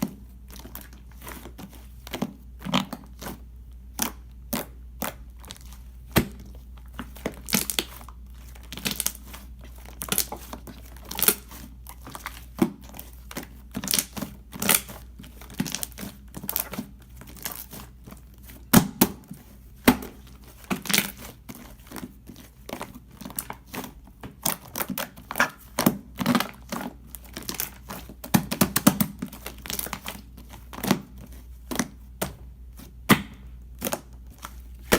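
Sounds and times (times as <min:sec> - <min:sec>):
crinkling and crackling: 0:00.0 - 0:33.0, 0:33.6 - 0:34.9.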